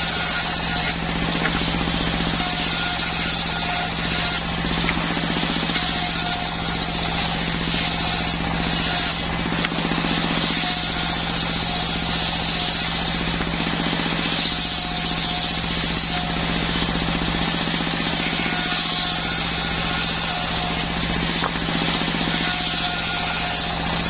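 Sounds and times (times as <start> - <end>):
circular saw running: 0.0 - 24.0.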